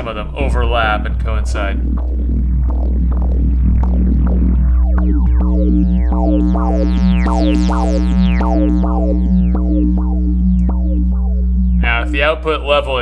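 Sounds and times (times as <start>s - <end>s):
low synth drone: 0.0s - 13.0s
synthesizer plucked notes: 0.0s - 13.0s.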